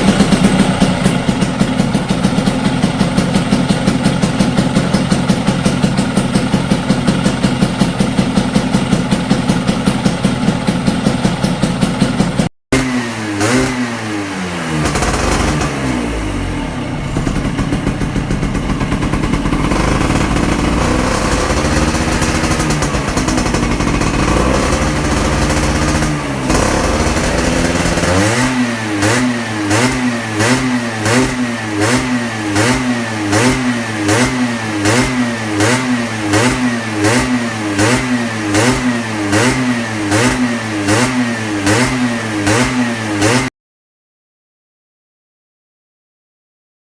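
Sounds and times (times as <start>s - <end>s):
scooter engine idling and revving: 0.0s - 43.6s.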